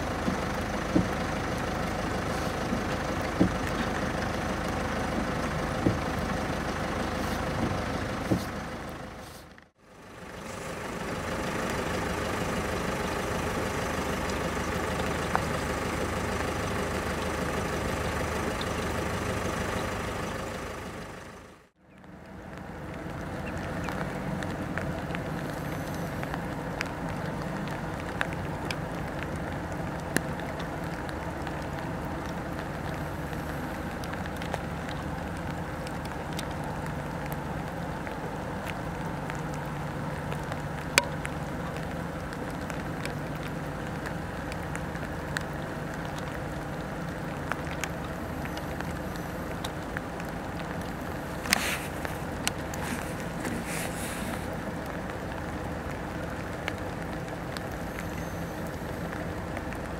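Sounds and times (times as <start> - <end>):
low mechanical hum: 0.0 - 59.9
rain falling: 0.0 - 59.9
sharp raindrop ticks: 0.0 - 59.9.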